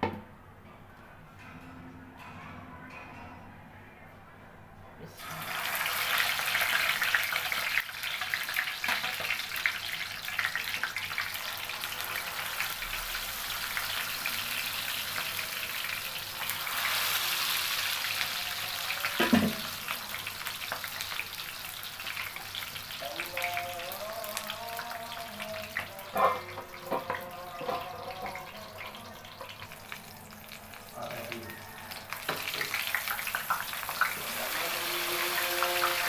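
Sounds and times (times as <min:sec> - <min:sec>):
fish sizzling in hot oil: 0:05.2 - 0:28.3, 0:29.4 - 0:36.0.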